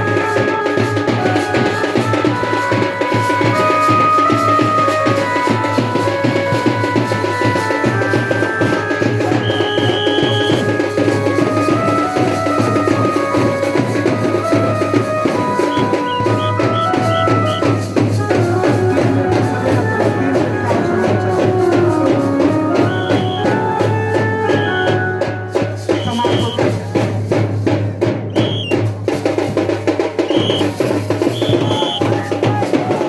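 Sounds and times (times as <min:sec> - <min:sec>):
music with drum beat: 0:00.0 - 0:33.0.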